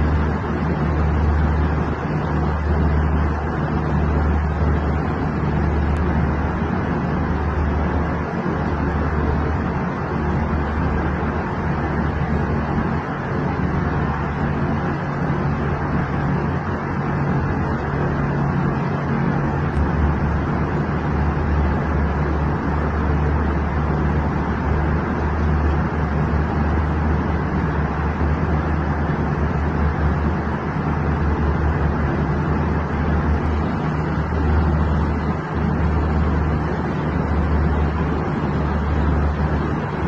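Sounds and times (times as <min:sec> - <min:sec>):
airliner cabin drone: 0:00.0 - 0:40.0.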